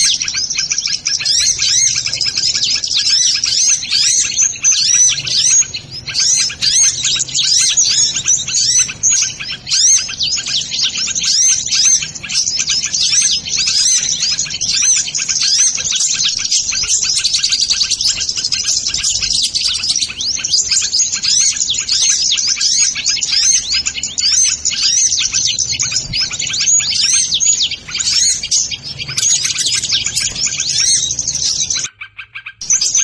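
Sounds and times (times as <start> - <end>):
sunbirds twittering: 0.0 - 33.0.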